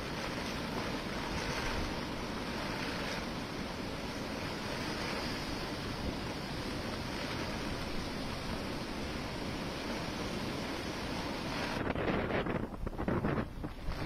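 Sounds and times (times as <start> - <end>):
heavy rain: 0.0 - 14.0
rough sea: 0.0 - 14.0
strong wind buffeting microphone: 0.0 - 14.0.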